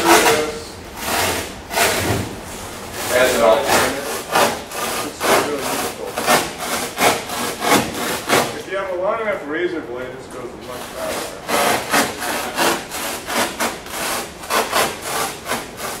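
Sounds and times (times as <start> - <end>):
knife scraping board: 0.0 - 8.7, 10.6 - 16.0.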